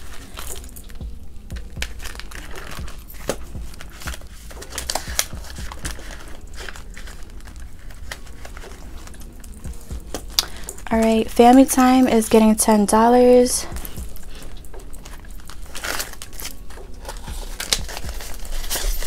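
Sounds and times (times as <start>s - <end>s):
paper banknotes rustling: 0.0s - 19.0s
plastic envelope crinkling: 0.0s - 19.0s.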